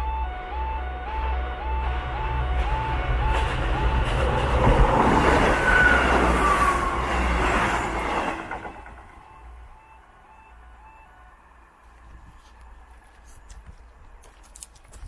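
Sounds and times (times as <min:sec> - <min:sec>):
two-tone warning alarm: 0:00.0 - 0:12.8
diesel train passing: 0:00.0 - 0:14.2.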